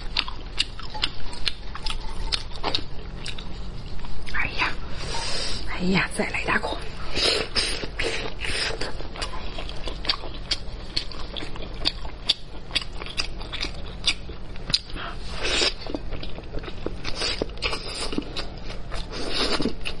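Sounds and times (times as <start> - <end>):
wet chewing and lip-smacking: 0.0 - 4.4, 7.1 - 20.0.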